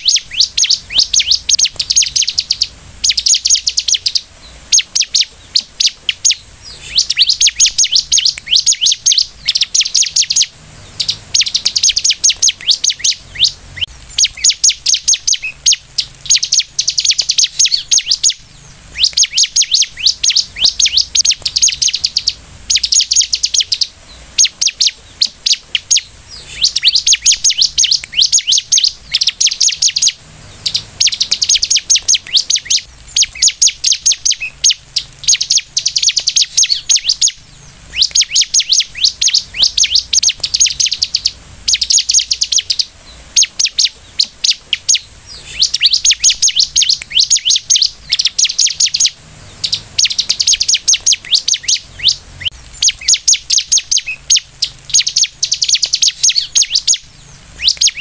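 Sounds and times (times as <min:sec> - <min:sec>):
bird singing chattering trills: 0:00.0 - 0:58.0.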